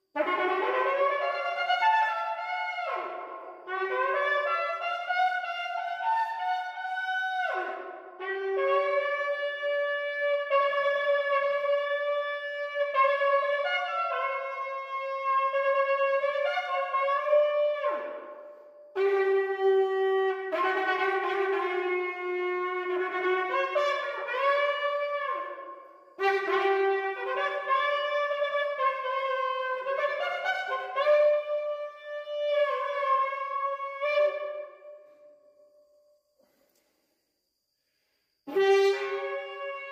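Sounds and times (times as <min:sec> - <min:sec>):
shofar blasts: 0:00.2 - 0:18.4, 0:19.0 - 0:35.4, 0:38.5 - 0:39.9.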